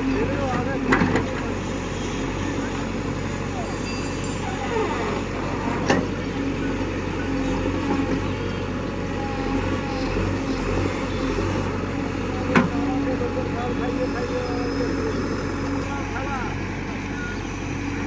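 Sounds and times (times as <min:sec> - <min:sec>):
backhoe digging: 0:00.0 - 0:18.0
diesel engine running: 0:00.0 - 0:18.0.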